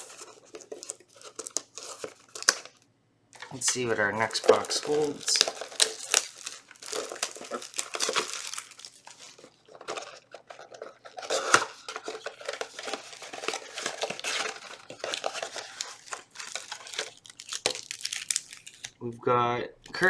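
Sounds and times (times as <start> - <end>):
cardboard box tearing: 0.0 - 2.7, 3.5 - 18.9.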